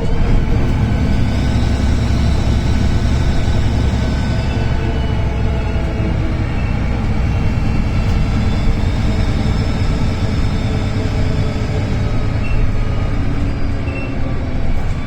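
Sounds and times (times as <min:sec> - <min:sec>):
bus engine rumbling: 0:00.0 - 0:15.0
turbocharger whistling: 0:00.1 - 0:14.4.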